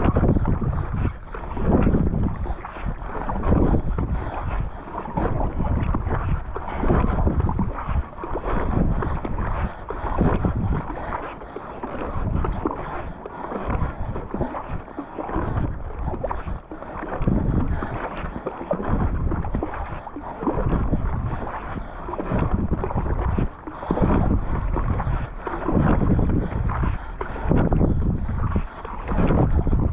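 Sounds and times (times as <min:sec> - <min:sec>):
paddle splashing through water: 0:00.0 - 0:29.9
wind buffeting microphone: 0:00.0 - 0:29.9.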